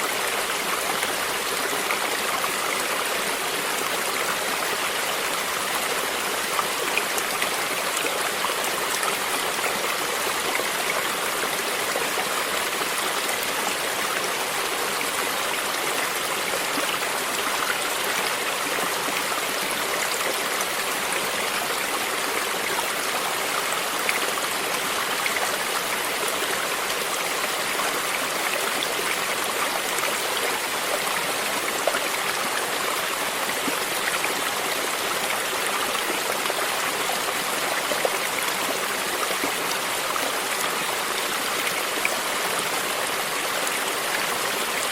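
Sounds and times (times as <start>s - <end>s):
stream water flowing and splashing: 0.0s - 44.9s.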